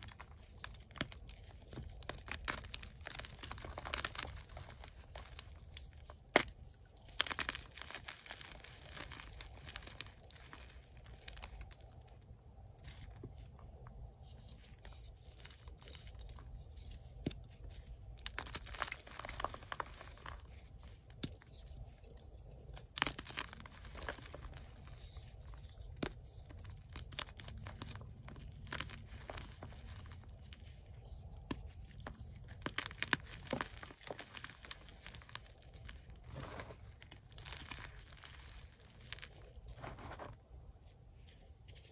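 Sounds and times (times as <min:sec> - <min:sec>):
chalk crunching and snapping: 0:00.0 - 0:12.2, 0:14.2 - 0:41.9.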